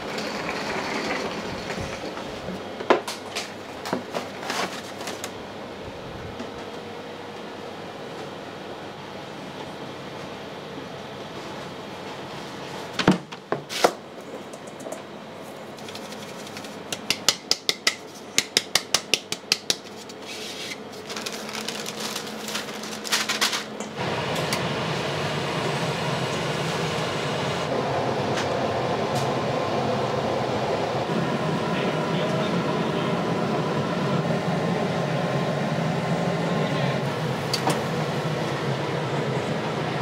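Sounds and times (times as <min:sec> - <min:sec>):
steady mechanical running noise: 0:00.0 - 0:40.0.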